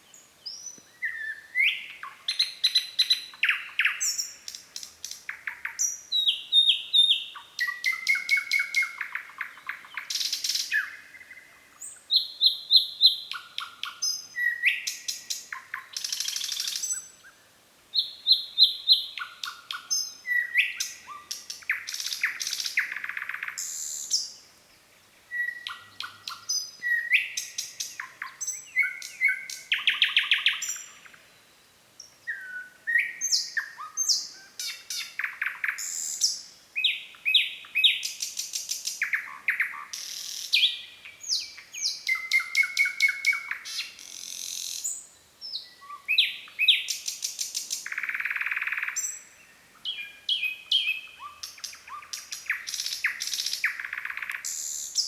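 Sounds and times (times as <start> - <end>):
nightingale singing: 0.0 - 24.6, 25.2 - 55.0.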